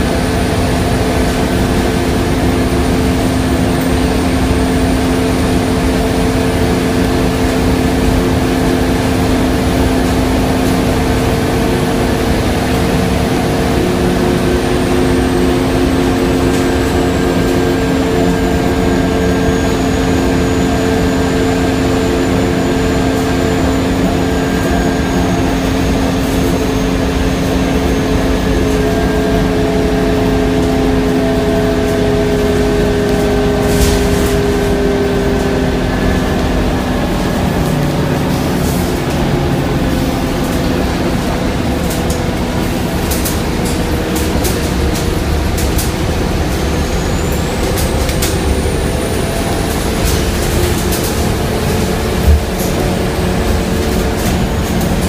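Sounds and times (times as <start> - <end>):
bus engine drone: 0.0 - 55.0
road rumble: 0.0 - 55.0.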